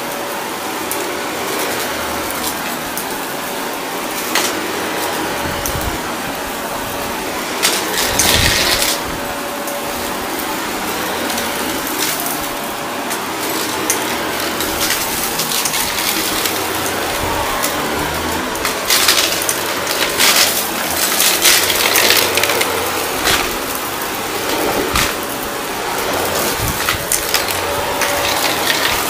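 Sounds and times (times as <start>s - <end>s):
vacuum cleaner running: 0.0s - 29.0s
crackling of sucked up debris: 4.0s - 29.0s.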